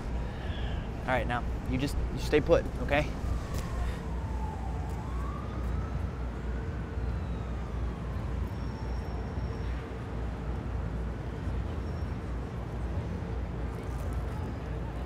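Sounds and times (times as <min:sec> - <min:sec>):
faint siren wailing: 0:00.0 - 0:12.3
city traffic rumble: 0:00.0 - 0:15.0.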